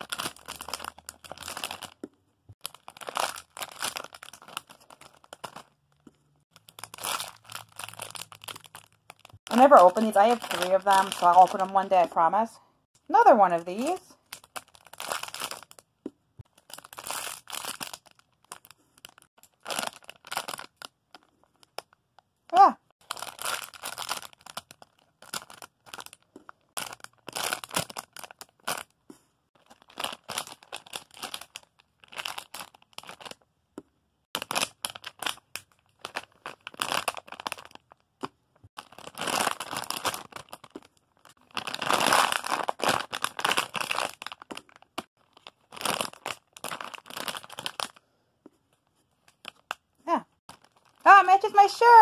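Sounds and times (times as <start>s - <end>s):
plastic packaging crinkling: 0.0s - 12.3s, 13.5s - 15.9s, 16.5s - 22.3s, 23.0s - 29.0s, 29.6s - 33.4s, 34.4s - 38.1s, 38.8s - 48.0s, 49.2s - 49.8s, 50.5s - 51.2s.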